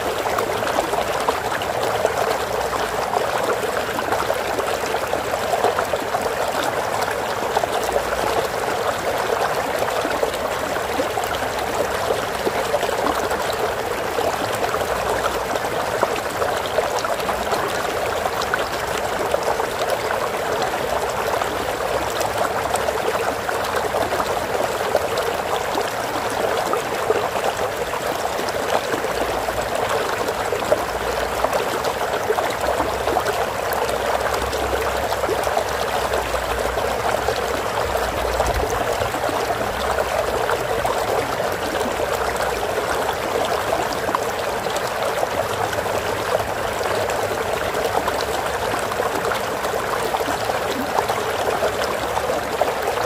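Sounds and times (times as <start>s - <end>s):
stream water flowing over stones: 0.0s - 53.0s.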